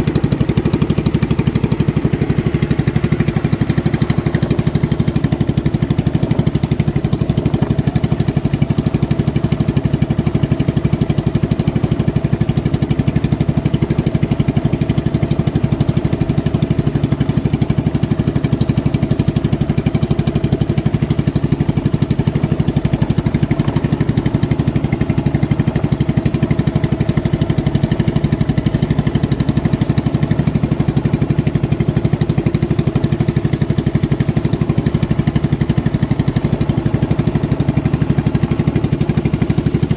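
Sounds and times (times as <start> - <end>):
boat engine running at high revs: 0.0 - 39.9.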